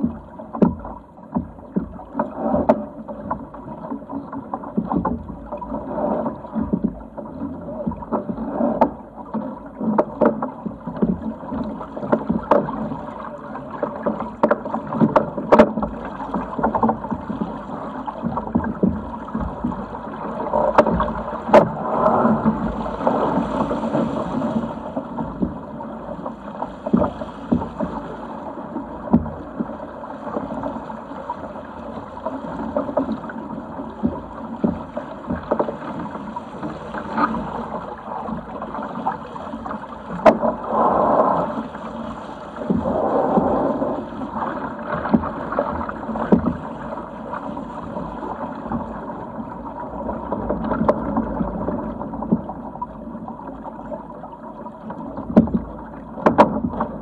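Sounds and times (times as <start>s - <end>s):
water rushing along yacht hull: 0.0s - 57.0s
waves slapping against hull: 0.0s - 57.0s.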